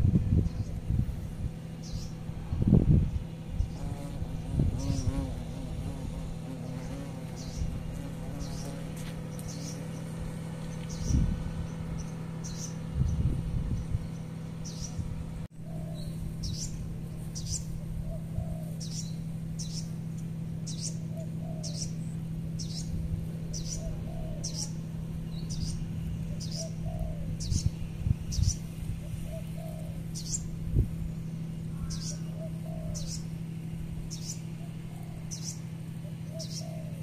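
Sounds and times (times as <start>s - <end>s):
lower paired bird calls: 0.0s - 37.0s
steady low hum: 0.0s - 37.0s.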